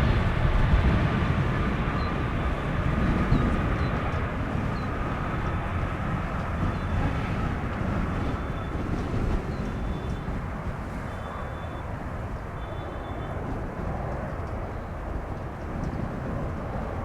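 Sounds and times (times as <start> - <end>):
jet engine high whine: 0.0 - 17.0
jet engines rumbling: 0.0 - 17.0
wind buffeting microphone: 0.0 - 17.0.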